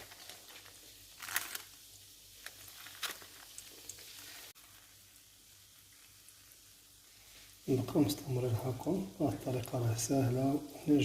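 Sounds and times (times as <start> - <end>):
donuts sizzling in oil: 0.0 - 11.0
faint hiss: 0.0 - 11.0.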